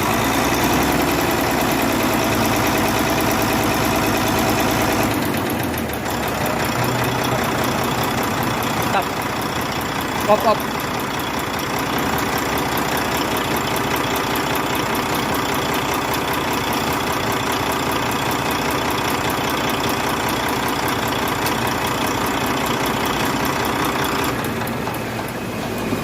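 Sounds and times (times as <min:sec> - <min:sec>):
diesel engine idling: 0:00.0 - 0:26.0
fast regular engine ticking: 0:00.0 - 0:26.0.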